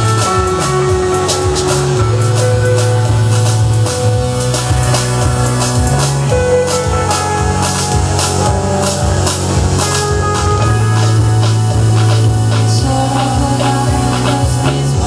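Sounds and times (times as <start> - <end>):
drum kit with cymbals: 0.0 - 15.0
electric bass low notes: 0.0 - 15.0
electric guitar: 0.0 - 15.0.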